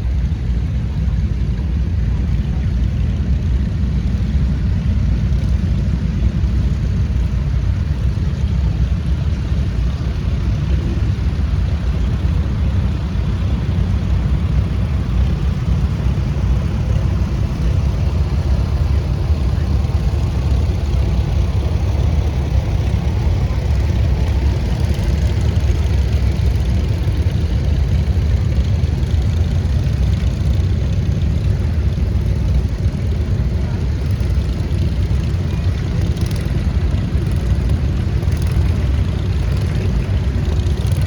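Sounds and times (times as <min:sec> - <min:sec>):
tractor engines rumbling: 0:00.0 - 0:41.0.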